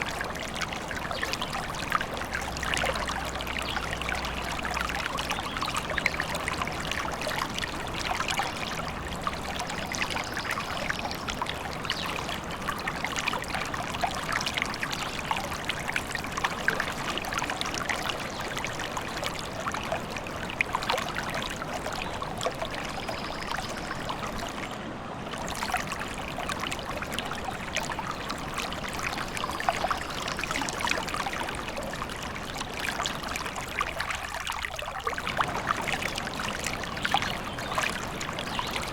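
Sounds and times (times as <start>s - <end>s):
stream trickling and babbling: 0.0s - 38.9s.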